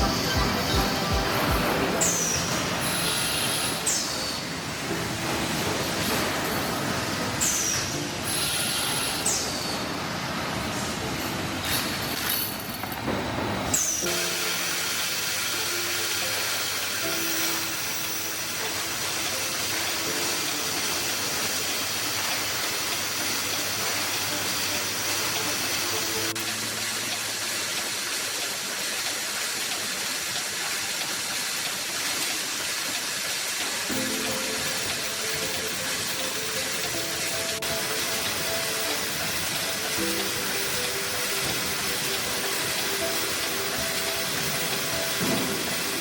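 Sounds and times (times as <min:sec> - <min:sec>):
factory machinery hiss and whine: 0:00.0 - 0:46.0.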